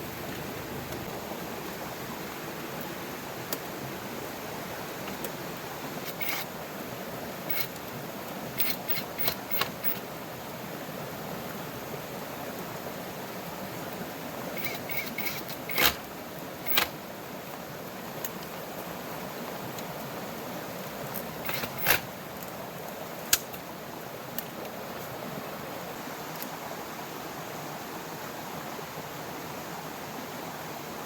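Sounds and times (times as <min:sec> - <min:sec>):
rain: 0:00.0 - 0:31.0
river rushing: 0:00.0 - 0:31.0.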